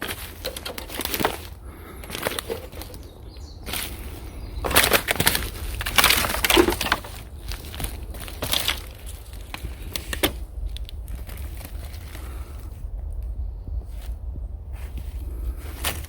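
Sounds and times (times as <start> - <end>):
earth and roots crunching: 0.0 - 16.0.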